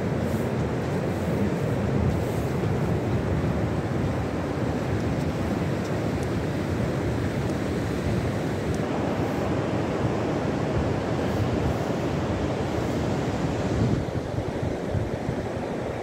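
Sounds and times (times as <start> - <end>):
surf breaking on a beach: 0.0 - 16.0
wind buffeting the microphone: 0.0 - 16.0.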